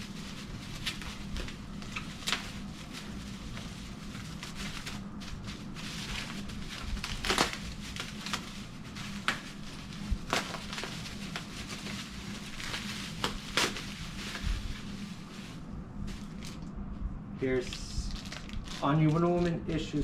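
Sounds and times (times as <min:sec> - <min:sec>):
plastic packaging crinkling: 0:00.0 - 0:16.7, 0:17.5 - 0:19.8.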